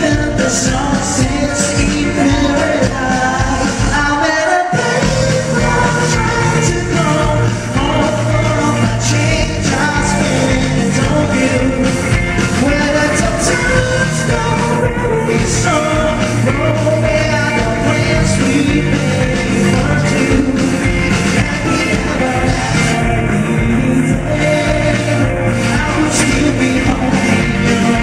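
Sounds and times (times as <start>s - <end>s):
live rock-pop band: 0.0s - 28.0s
man singing into microphone: 0.0s - 28.0s.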